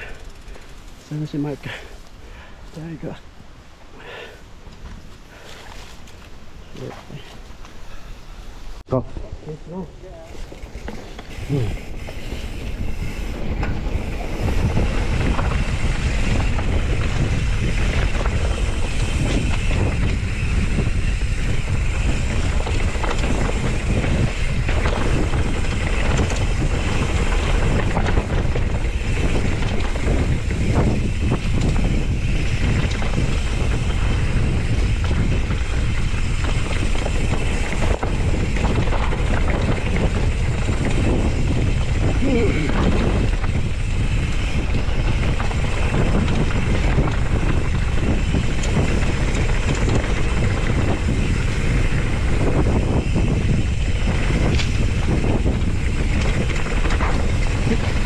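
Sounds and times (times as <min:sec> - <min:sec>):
bike rattling over bumps: 0:00.0 - 0:03.1, 0:09.8 - 0:58.0
bike tyres rumbling on dirt: 0:00.0 - 0:03.2, 0:04.0 - 0:58.0
wind buffeting microphone: 0:00.0 - 0:58.0.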